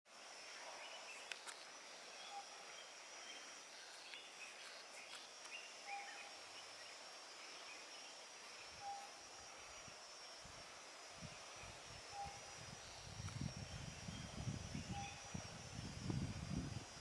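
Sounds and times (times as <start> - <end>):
steady high hiss: 0.1 - 17.0.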